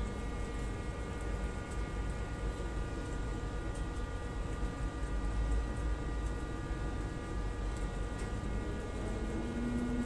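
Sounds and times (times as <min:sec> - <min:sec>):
machine hum: 0:00.0 - 0:10.0
rabbits chewing greens: 0:00.0 - 0:10.0.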